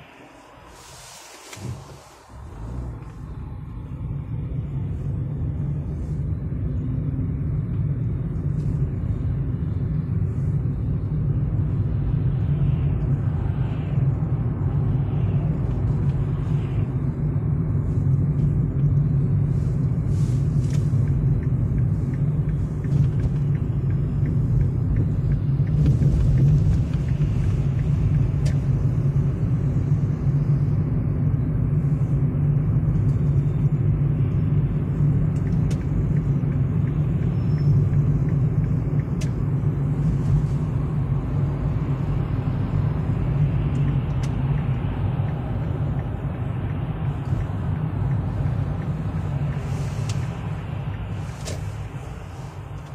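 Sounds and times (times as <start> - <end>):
car engine rumble: 0.0 - 52.9.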